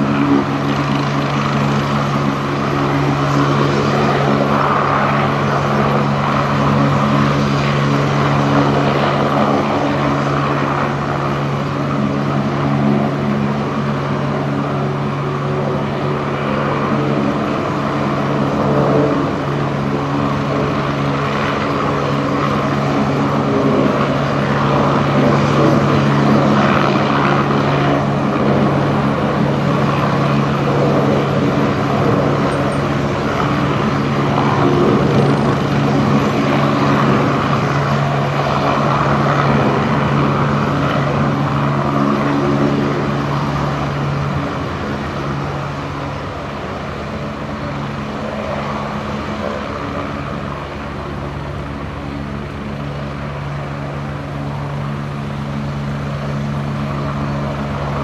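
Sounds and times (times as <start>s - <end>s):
helicopter turbine and rotor whoosh: 0.0s - 58.0s.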